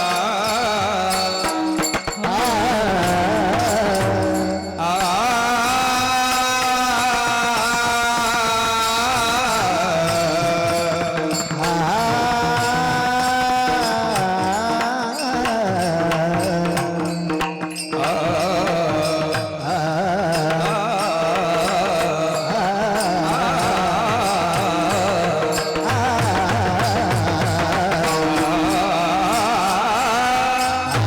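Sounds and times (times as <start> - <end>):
light percussion: 0.0 - 31.0
man singing devotional song: 0.0 - 31.0.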